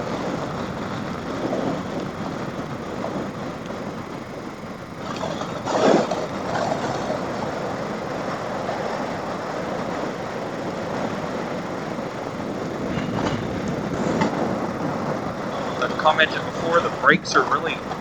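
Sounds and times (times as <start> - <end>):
rush of wind: 0.0 - 18.0
tyre noise on wet road: 0.0 - 18.0.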